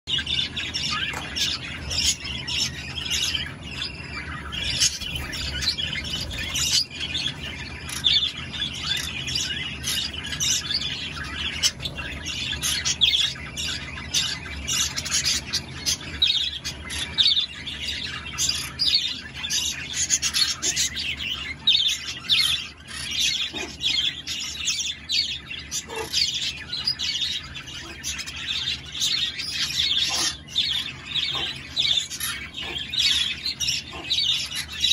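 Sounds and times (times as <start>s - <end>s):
parrots chirping and squawking: 0.1s - 34.9s.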